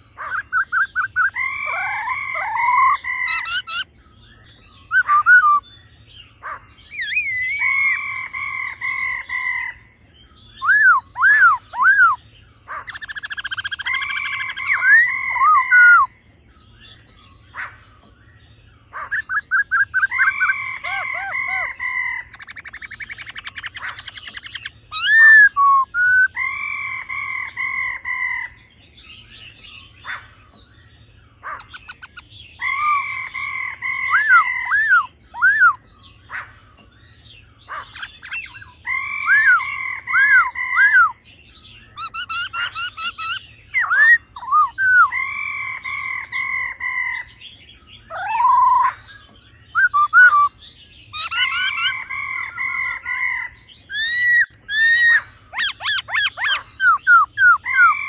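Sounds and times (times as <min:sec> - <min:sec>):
bird calls: 0:00.0 - 0:58.0
birds singing whistled notes: 0:00.0 - 0:58.0
fast bird trill: 0:00.0 - 0:58.0.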